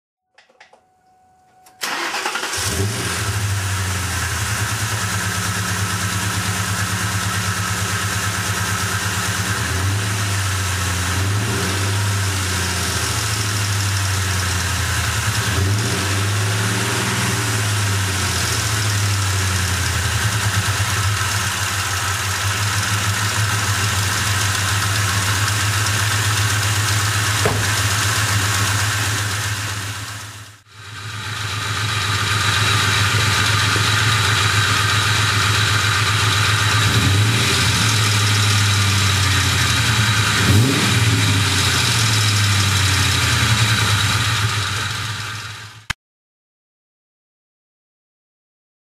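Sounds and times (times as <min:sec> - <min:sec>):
car engine idling with ticking: 0:02.6 - 0:45.9.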